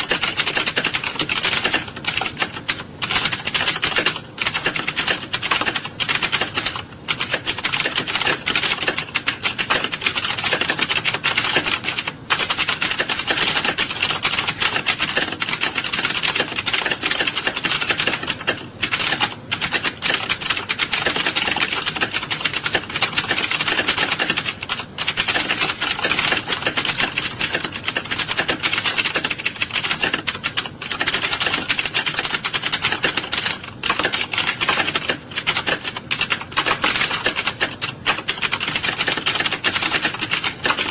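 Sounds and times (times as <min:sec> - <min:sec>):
many keyboards typing: 0:00.0 - 0:40.9.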